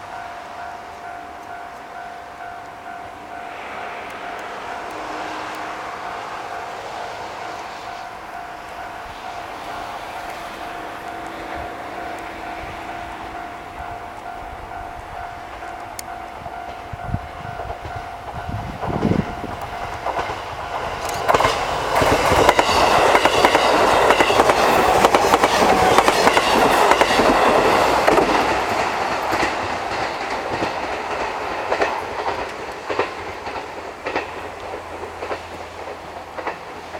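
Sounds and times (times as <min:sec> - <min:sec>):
train wheels clacking on rail joints: 0:00.0 - 0:36.9.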